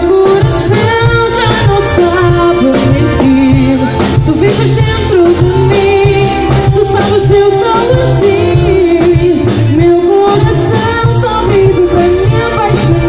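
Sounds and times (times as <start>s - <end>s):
drum kit beat: 0.0s - 13.0s
live band playing: 0.0s - 13.0s
woman singing: 0.0s - 13.0s.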